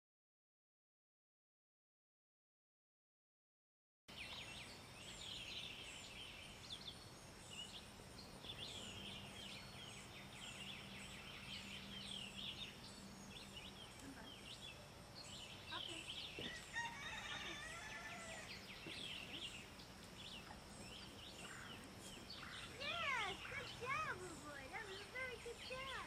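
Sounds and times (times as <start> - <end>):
birds chirping and singing: 4.1 - 26.0.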